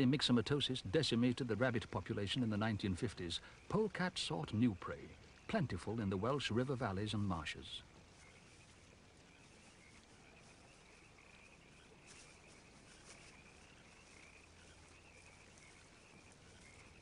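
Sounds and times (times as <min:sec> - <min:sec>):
high-pitched animal chorus: 0:00.0 - 0:17.0.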